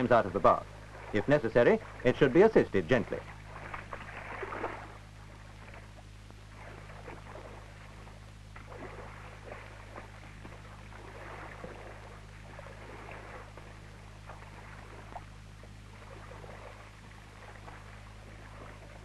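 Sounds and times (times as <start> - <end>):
faint water splashing: 0.0 - 19.0
steady low hum: 0.0 - 19.0.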